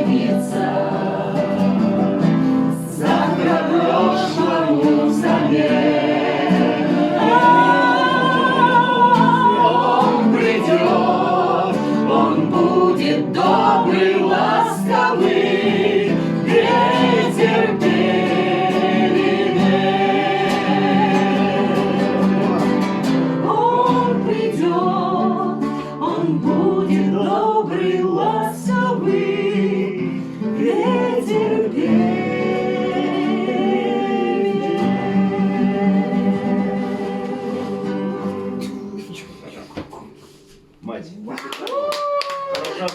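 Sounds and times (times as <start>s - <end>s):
group of voices singing: 0.0s - 40.5s
acoustic guitar: 0.0s - 42.9s.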